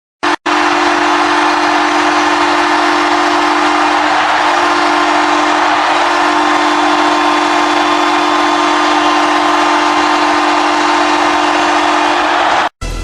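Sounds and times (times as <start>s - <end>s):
low goal horn blast: 0.2s - 13.0s.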